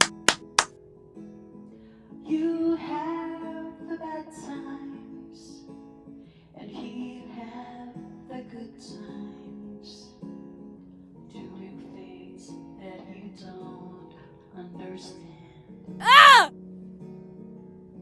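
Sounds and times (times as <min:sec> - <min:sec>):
acoustic guitar backing track: 0:00.0 - 0:14.5.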